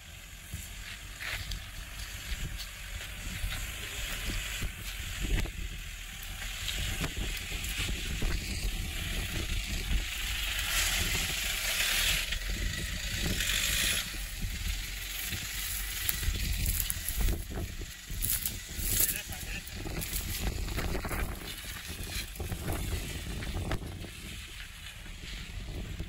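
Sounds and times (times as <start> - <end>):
diesel engine pulling uphill: 0.0 - 26.0
tyres crunching over dirt and stones: 0.4 - 26.0.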